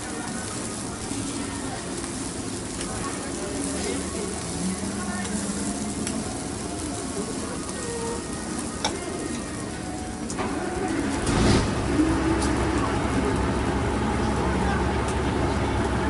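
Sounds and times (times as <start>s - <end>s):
pancakes sizzling on griddle: 0.0s - 15.6s.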